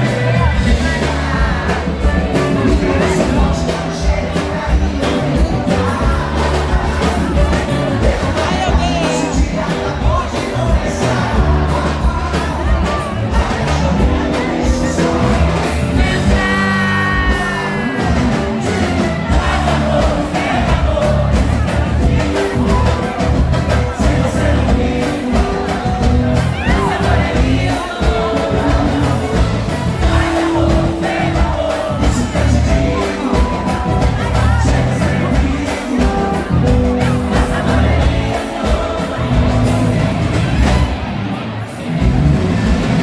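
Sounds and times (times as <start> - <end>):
person singing: 0.0 - 41.0
live band music: 0.0 - 43.0.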